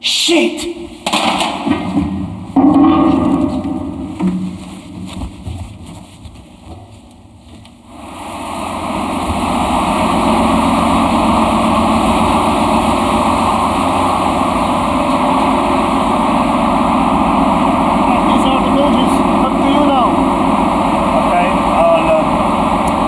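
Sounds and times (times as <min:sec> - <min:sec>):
engine-room machinery drone: 0:00.0 - 0:23.0.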